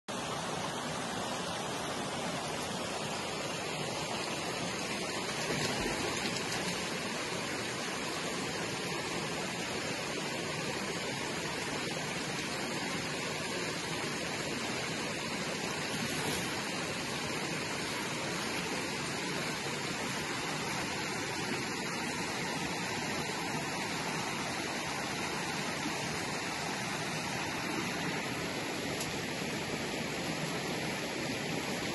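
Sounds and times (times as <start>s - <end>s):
stream running over rocks: 0.1s - 31.9s.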